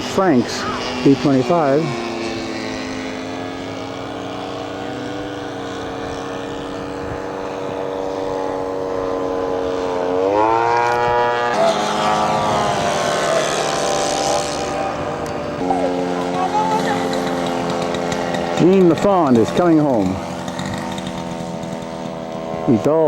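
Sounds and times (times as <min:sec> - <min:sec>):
model airplane engine drone: 0:00.0 - 0:23.0.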